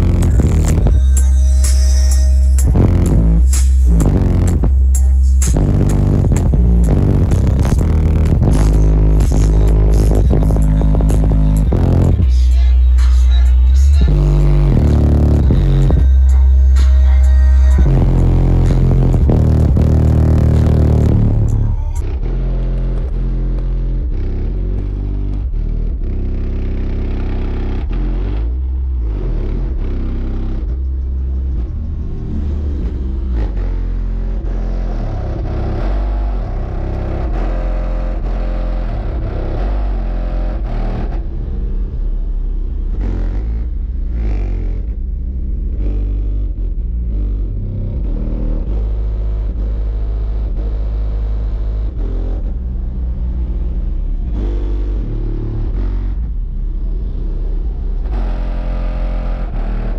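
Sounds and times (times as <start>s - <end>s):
deep bass music from subwoofers: 0.0s - 59.9s.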